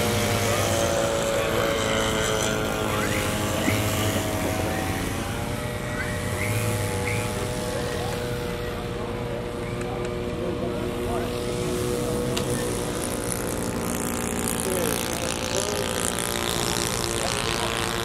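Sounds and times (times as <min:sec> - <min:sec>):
model plane engines running: 0:00.0 - 0:18.0.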